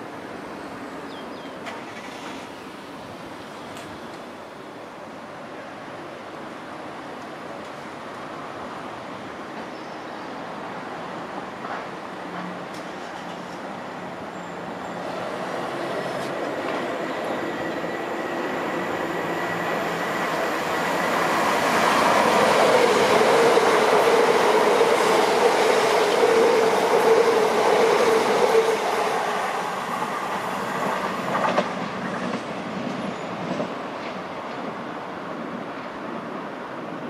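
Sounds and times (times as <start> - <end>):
train passing at speed: 0.0 - 37.0.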